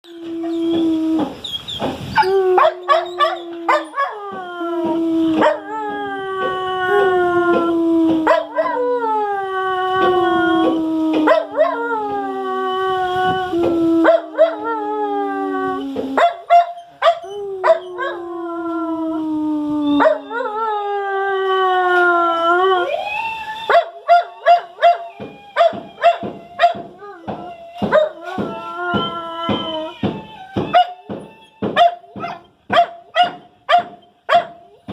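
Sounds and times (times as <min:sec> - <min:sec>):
dog howling: 0:00.0 - 0:34.9.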